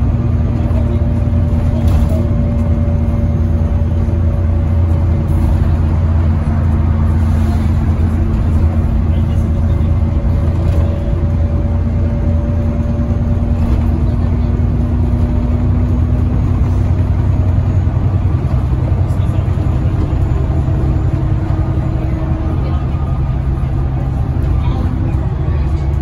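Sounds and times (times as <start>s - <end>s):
bus engine and road noise drone: 0.0s - 26.0s.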